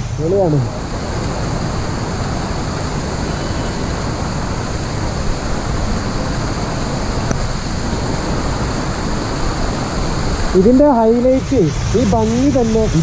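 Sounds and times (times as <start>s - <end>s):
waterfall water rushing: 0.0s - 13.0s.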